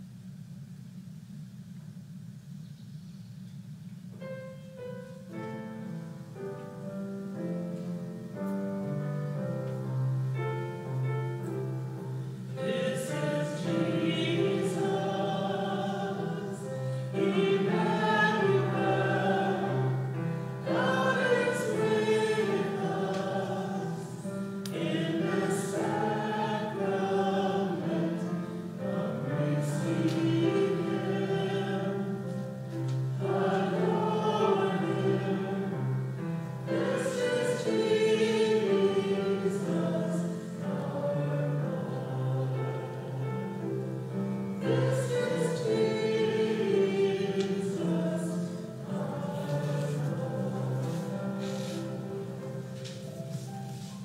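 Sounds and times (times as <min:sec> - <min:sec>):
congregation singing a hymn: 0:04.2 - 0:54.0.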